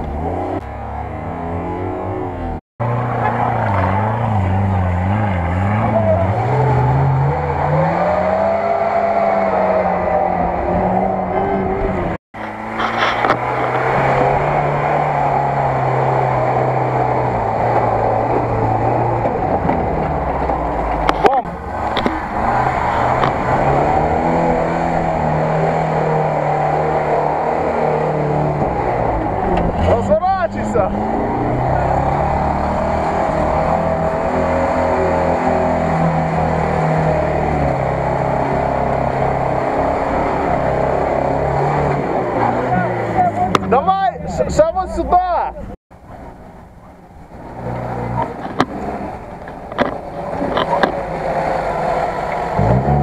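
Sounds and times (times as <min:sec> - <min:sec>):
off-road vehicle engine under load: 0:00.0 - 0:53.0.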